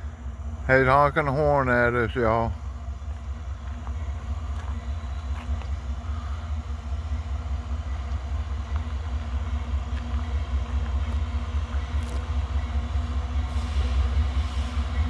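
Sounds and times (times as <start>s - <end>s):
diesel locomotives rumbling: 0.0s - 15.0s.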